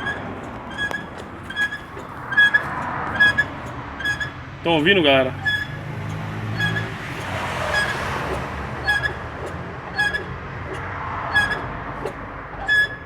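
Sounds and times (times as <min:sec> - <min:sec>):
brake squeak: 0:00.0 - 0:13.0
drum brakes scraping: 0:00.0 - 0:13.0
engine humming: 0:00.0 - 0:13.0.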